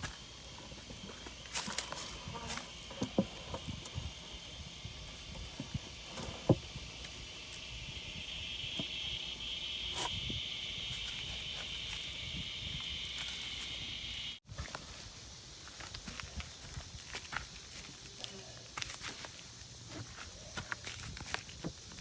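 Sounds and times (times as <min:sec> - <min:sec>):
insect chorus buzzing: 0:00.0 - 0:22.0.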